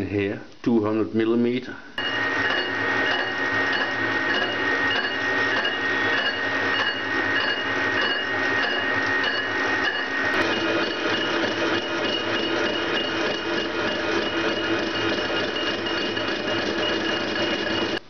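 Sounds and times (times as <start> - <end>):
high squealing tone: 2.0 - 18.0
metal lathe cutting steel: 2.0 - 18.0.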